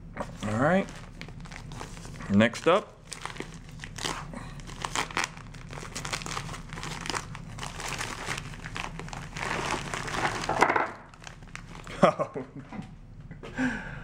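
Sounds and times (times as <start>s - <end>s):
plastic crackles: 0.2s - 12.1s
plastic packaging crinkling: 0.3s - 12.1s.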